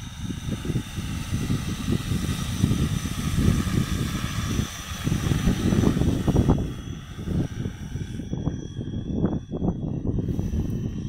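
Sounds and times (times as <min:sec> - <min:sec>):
drone propellers whining: 0:00.0 - 0:11.0
wind buffeting microphone: 0:00.0 - 0:11.0.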